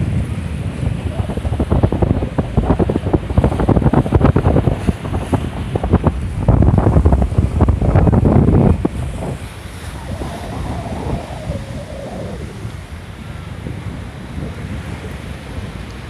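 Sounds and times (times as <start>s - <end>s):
waves splashing: 0.0s - 16.0s
wind buffeting microphone: 0.0s - 16.0s.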